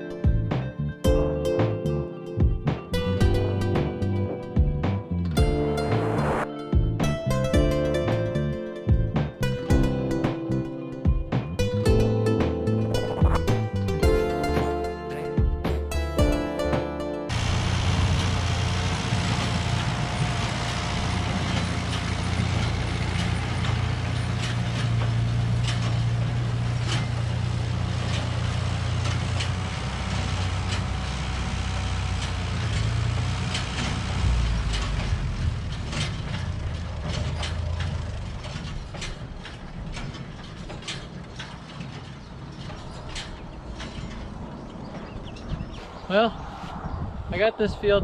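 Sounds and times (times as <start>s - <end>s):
tractor engine running: 0.0s - 46.3s
baler clicking and clanking: 6.8s - 46.0s.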